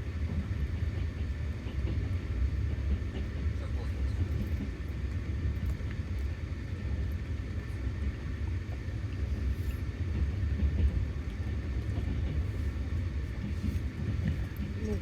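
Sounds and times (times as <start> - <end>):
passenger train rumbling: 0.0 - 15.0.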